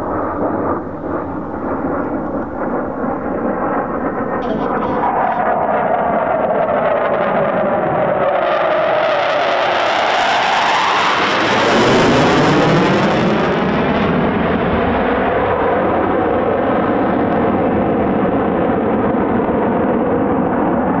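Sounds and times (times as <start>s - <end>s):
jet passing overhead: 0.0s - 21.0s.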